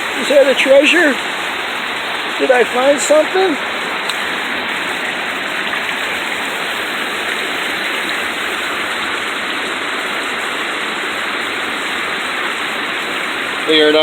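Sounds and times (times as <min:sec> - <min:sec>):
water running over stones: 0:00.0 - 0:14.0.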